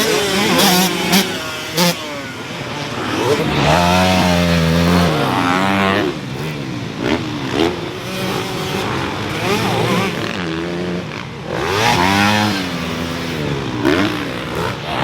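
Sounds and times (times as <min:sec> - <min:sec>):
dirt bike engines revving: 0:00.0 - 0:15.0
dirt bike passing by: 0:00.0 - 0:15.0.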